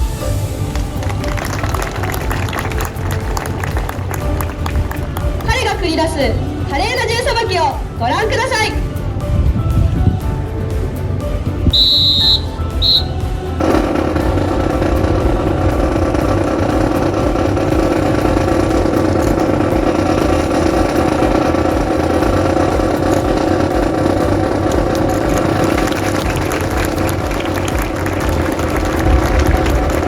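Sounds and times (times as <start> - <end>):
steady engine drone: 0.0 - 30.0.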